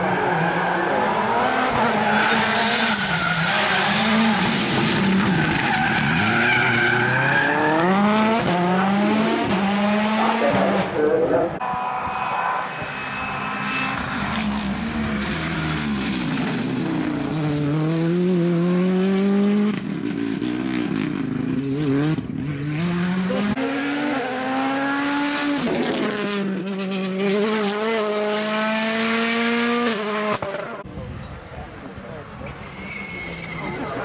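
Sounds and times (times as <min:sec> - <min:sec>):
rally car engines revving: 0:00.0 - 0:30.9
tyres on road: 0:00.0 - 0:34.0.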